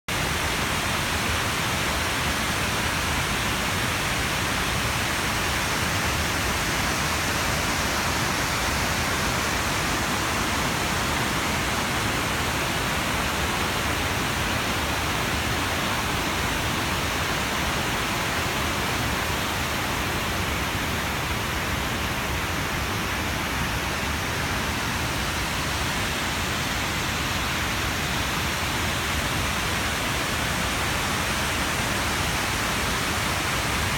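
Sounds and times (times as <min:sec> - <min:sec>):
river water rushing: 0:00.1 - 0:33.9.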